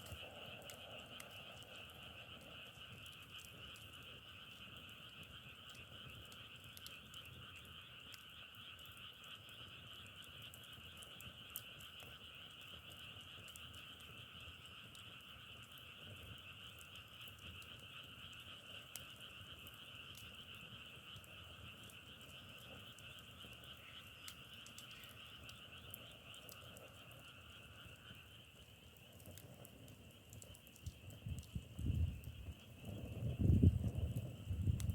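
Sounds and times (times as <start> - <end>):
frogs chorus: 0.0 - 34.9
sharp ticks: 0.0 - 34.9.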